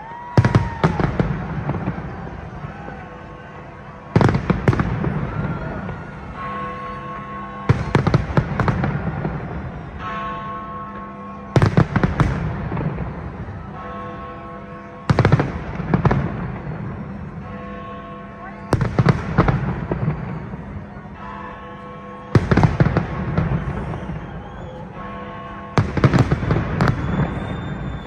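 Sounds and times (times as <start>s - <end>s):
fireworks bangs: 0.0s - 10.2s, 11.5s - 14.0s, 15.0s - 17.6s, 18.7s - 28.0s.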